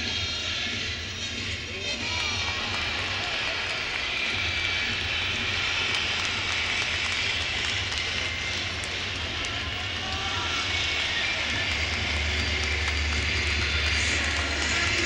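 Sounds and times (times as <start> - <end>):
stadium crowd cheering: 0.0 - 15.0.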